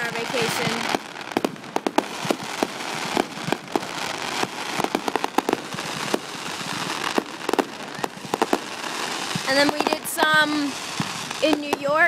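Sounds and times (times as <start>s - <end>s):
fireworks popping and banging: 0.0s - 12.0s
steady crackling hiss: 0.0s - 12.0s.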